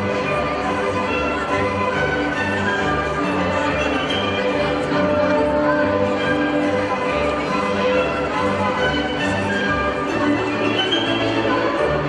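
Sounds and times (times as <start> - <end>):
orchestral music: 0.0 - 12.0.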